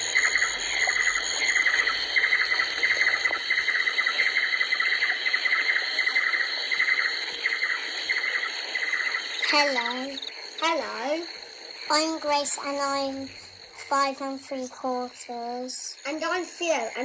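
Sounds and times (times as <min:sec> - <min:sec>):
constant high buzz: 0:00.0 - 0:17.0
insects trilling: 0:00.0 - 0:17.0.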